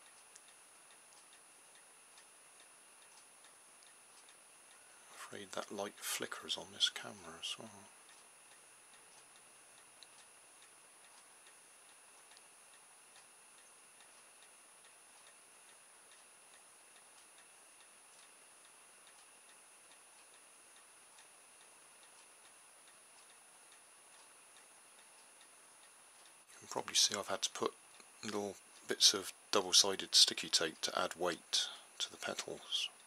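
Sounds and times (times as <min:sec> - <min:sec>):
faint regular ticking: 0:00.0 - 0:33.0
room hiss: 0:00.0 - 0:33.0.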